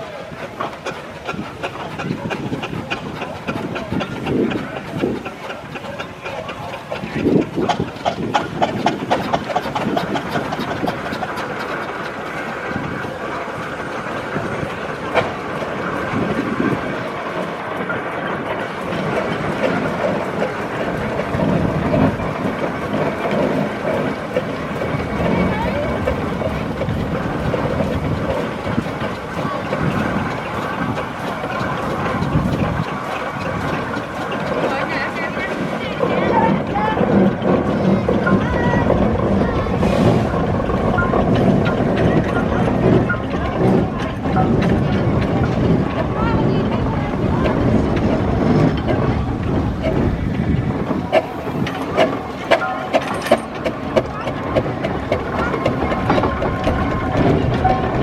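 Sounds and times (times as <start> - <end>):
steam engine exhaust chuffing: 0.0 - 58.0.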